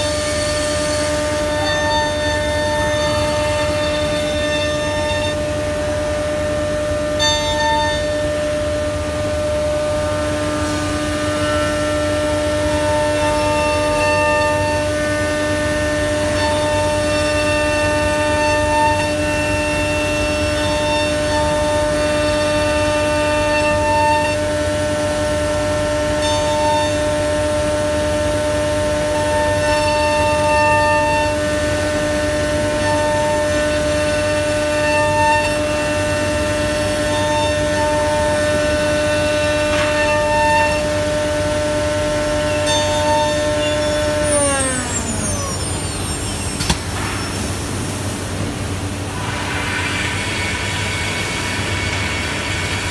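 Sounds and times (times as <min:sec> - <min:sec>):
router spindle cutting wood: 0:00.0 - 0:46.9.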